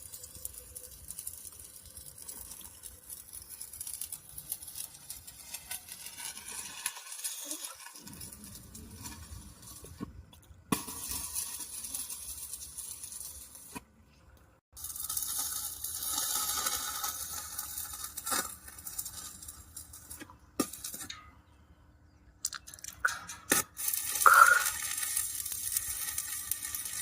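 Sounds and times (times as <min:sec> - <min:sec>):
electric arc welding crackling: 0:00.0 - 0:10.0, 0:10.7 - 0:13.8, 0:14.8 - 0:21.1, 0:22.8 - 0:27.0.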